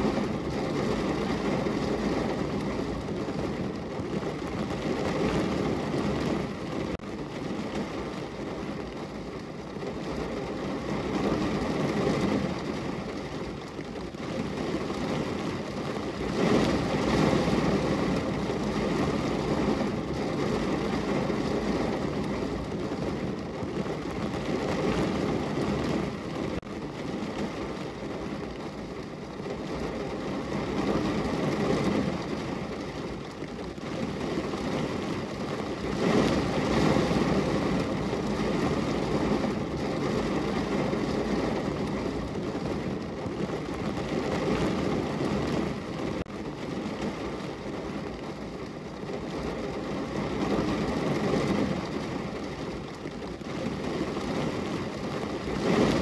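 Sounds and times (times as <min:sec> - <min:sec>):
rain falling on a window: 0:00.0 - 0:56.0.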